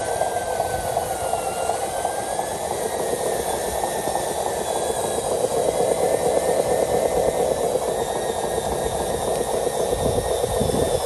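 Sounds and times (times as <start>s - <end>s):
toy truck electric motor whine: 0.0s - 11.0s.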